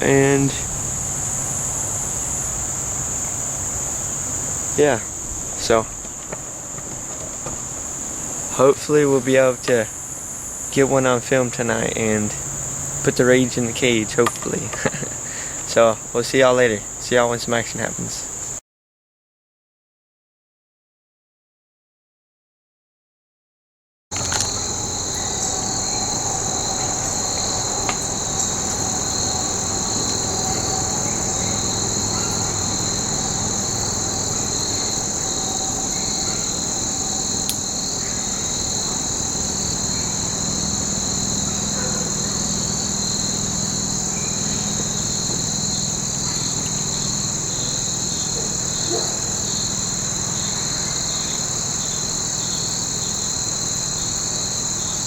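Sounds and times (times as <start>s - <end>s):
insects trilling: 0.0s - 18.6s, 24.1s - 55.0s.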